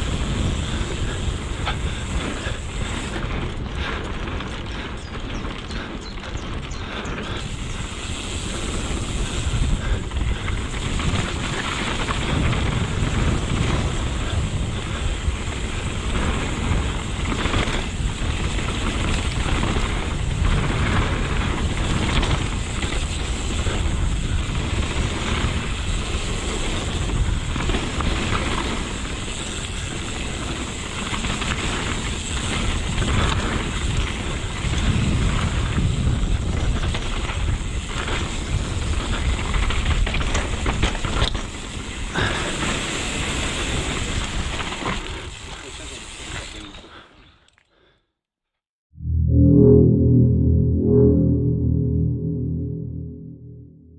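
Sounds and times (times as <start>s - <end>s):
bike tyres rumbling over gravel: 0.0s - 46.9s.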